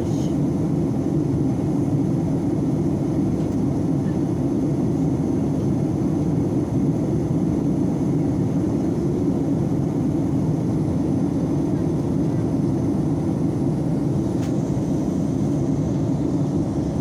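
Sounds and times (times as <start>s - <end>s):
airliner cabin engine roar: 0.0s - 17.0s.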